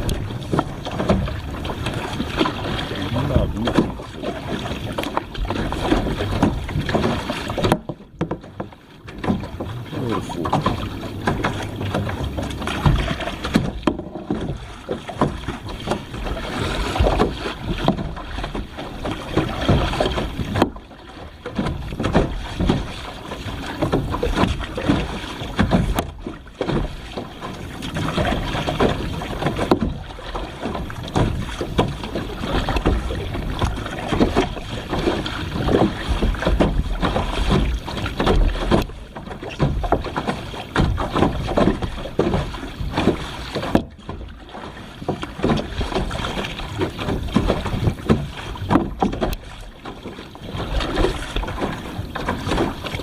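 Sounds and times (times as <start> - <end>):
water sloshing around a kayak: 0.0 - 53.0.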